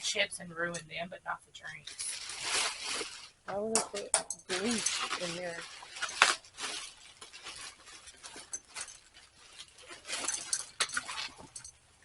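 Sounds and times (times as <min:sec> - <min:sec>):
items clinking and rattling: 0:01.8 - 0:12.0
rustling: 0:01.8 - 0:12.0.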